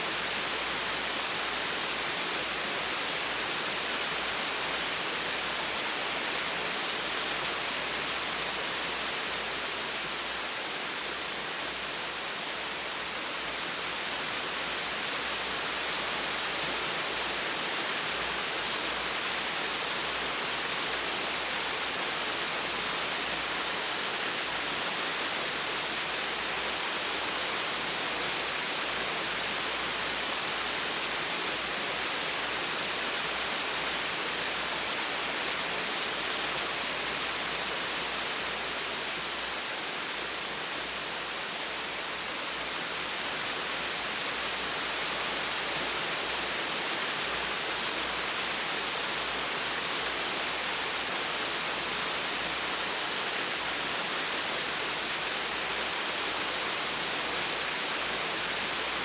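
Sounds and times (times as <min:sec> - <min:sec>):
gentle waterfall: 0:00.0 - 0:59.0.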